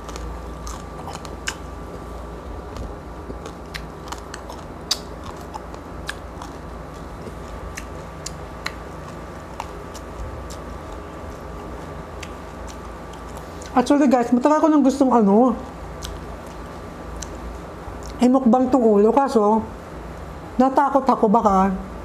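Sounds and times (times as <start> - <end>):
chewing crispy pork: 0.0 - 18.7
faint steady hum: 0.0 - 22.0.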